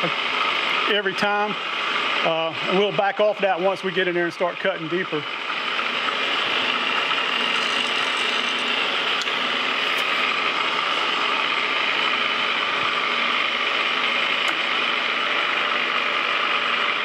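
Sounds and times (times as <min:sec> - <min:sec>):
metal lathe gears whirring: 0:00.0 - 0:17.0.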